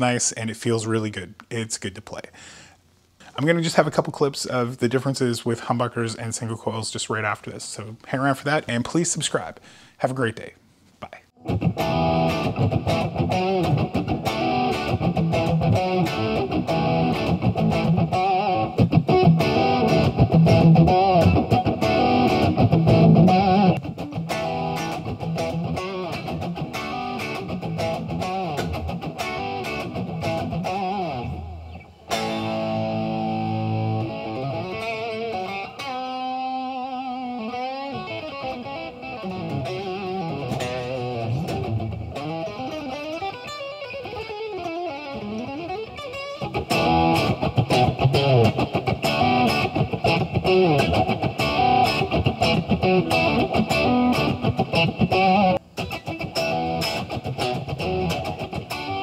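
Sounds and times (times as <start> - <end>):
overdriven electric guitar: 11.4 - 59.0.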